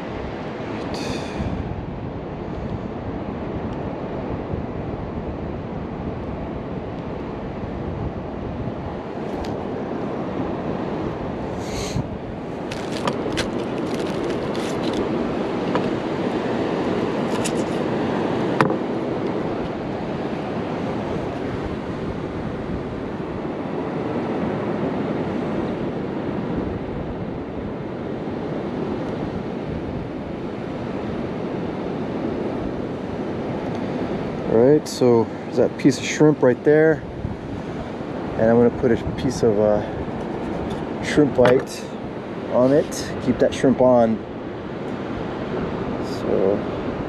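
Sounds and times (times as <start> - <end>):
surf washing on beach: 0.0 - 47.0
wind on microphone: 0.0 - 47.0.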